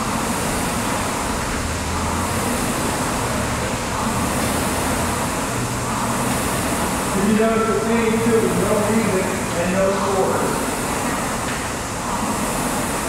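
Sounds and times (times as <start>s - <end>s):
rowing machine fan whirring: 0.0s - 13.0s.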